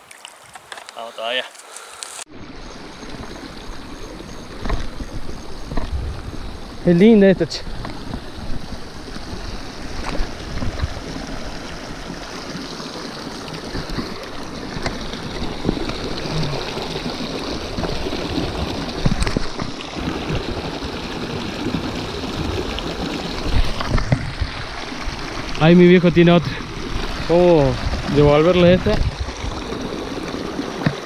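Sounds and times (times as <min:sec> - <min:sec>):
stream rushing over rocks: 0:00.0 - 0:31.0.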